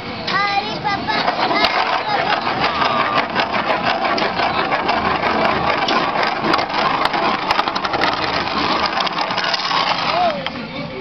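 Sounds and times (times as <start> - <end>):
spinning tops whirring: 0.6 - 10.7.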